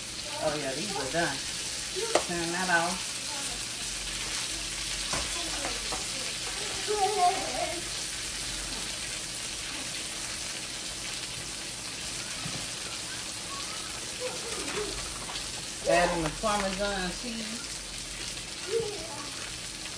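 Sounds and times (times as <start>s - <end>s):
chicken sizzling in oil: 0.0s - 19.9s.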